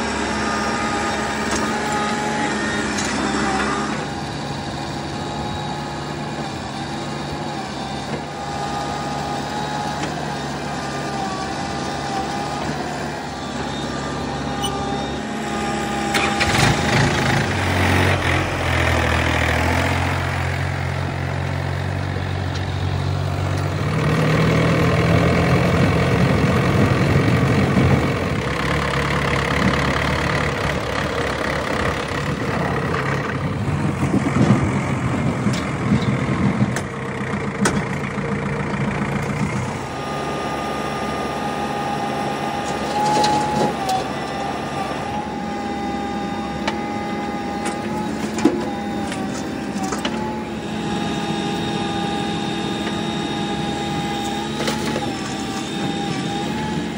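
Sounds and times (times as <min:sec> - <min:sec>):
diesel engines working: 0:00.0 - 0:56.9.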